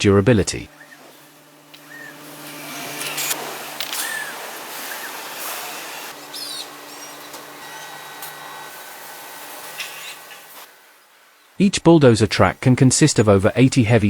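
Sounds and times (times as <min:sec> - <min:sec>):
industrial machinery hiss and hum: 0:00.0 - 0:11.6, 0:12.2 - 0:14.0.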